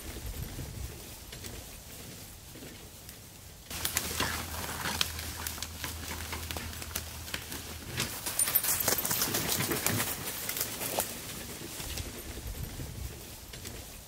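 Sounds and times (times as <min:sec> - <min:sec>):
footsteps in dry leaves: 0:00.0 - 0:12.4
sled rustling through leaves: 0:00.0 - 0:14.0.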